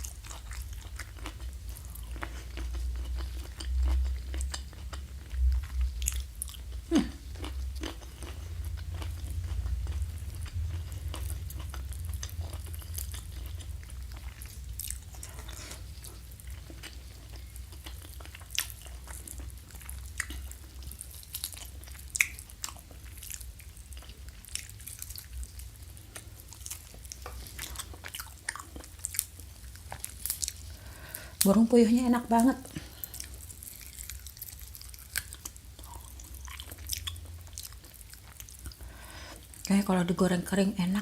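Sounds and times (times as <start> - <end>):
chewing crispy food: 0.0 - 41.0.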